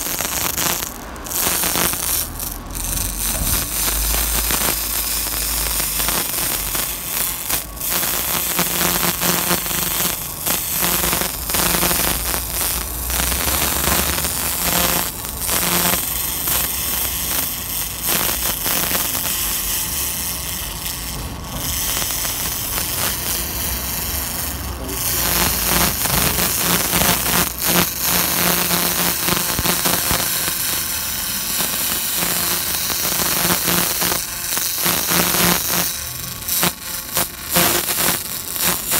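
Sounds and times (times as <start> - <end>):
laser crackling on stone: 0.0 - 38.9.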